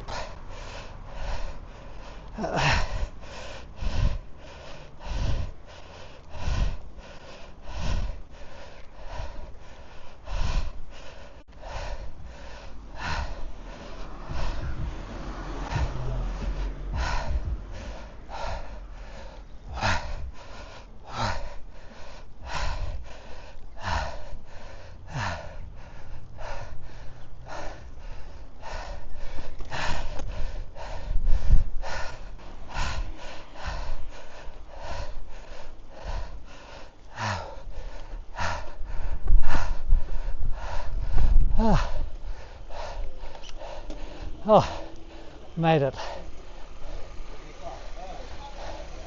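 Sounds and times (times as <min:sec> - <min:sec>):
person panting heavily: 0:00.0 - 0:49.0
wind and road noise: 0:00.0 - 0:49.0.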